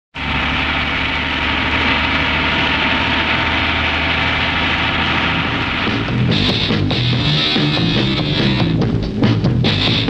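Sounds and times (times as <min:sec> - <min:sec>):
truck engine running: 0:00.1 - 0:10.0.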